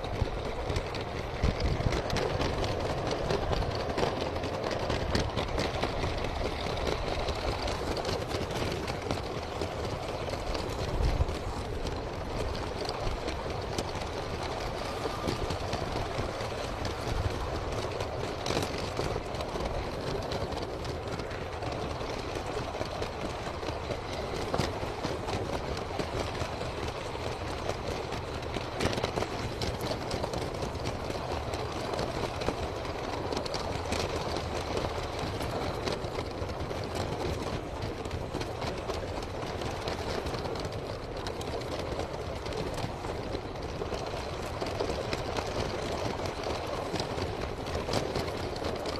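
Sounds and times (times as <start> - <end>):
sharp clicks of track: 0.0 - 48.9
toy train rattling on plastic track: 0.0 - 48.9.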